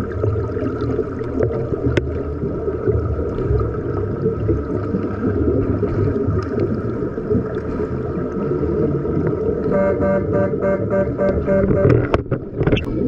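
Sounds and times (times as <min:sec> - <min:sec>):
underwater water churning: 0:00.0 - 0:13.0.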